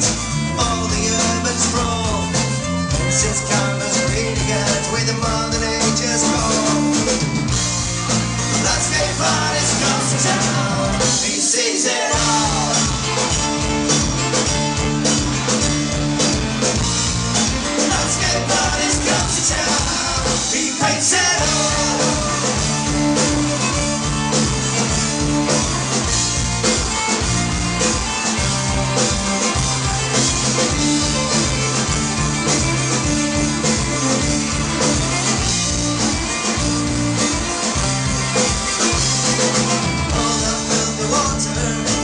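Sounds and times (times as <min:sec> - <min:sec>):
folk-punk band playing live: 0:00.0 - 0:42.0.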